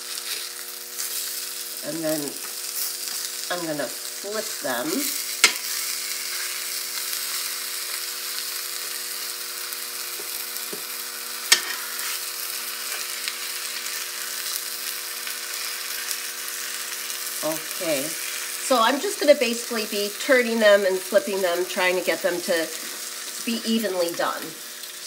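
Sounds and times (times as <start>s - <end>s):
chicken sizzling in butter: 0.0s - 25.0s.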